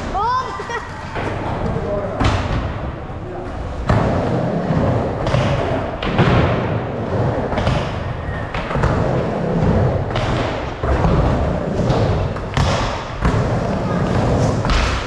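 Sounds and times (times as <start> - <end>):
skateboard wheels rumbling: 2.8 - 15.0.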